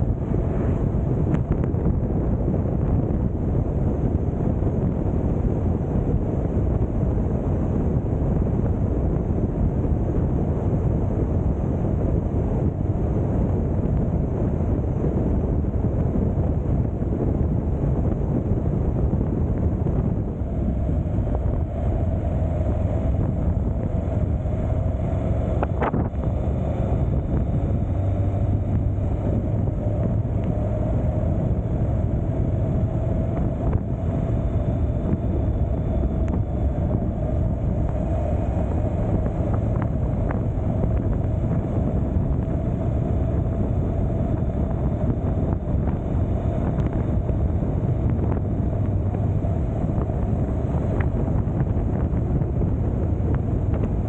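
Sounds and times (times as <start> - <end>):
vehicle and road drone: 0.0 - 54.0
wind on microphone: 0.0 - 54.0.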